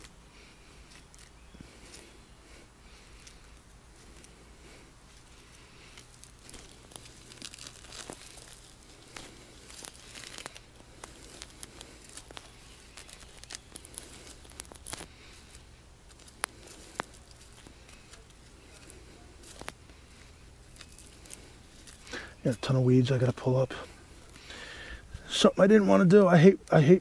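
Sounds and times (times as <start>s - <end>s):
hands rustling through mulch: 0.0s - 27.0s.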